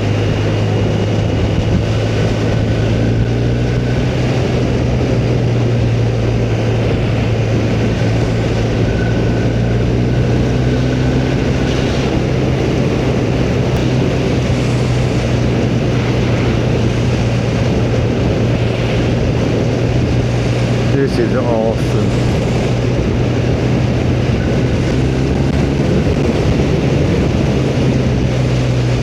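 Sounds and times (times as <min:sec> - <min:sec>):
motorcycle engine drone: 0:00.0 - 0:29.0
wind and road noise: 0:00.0 - 0:29.0.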